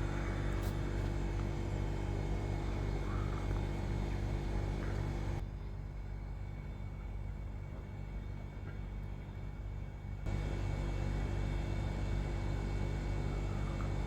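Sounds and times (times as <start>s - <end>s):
fridge unit humming: 0.0s - 14.0s
lower hum: 0.0s - 14.0s.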